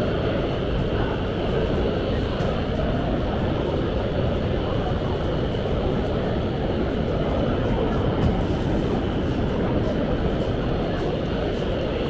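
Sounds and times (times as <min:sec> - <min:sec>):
busy exhibition hall din: 0:00.0 - 0:12.0.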